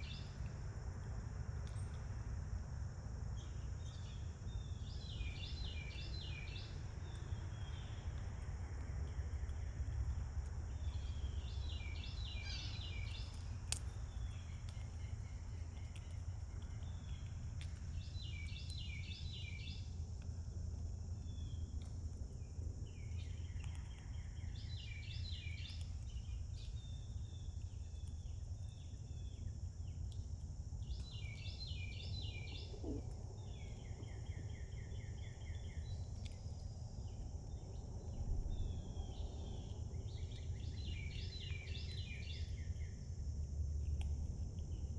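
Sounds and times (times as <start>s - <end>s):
songbird singing: 0.0s - 0.8s, 3.2s - 20.5s, 21.1s - 44.9s
low steady rumble: 0.0s - 44.9s.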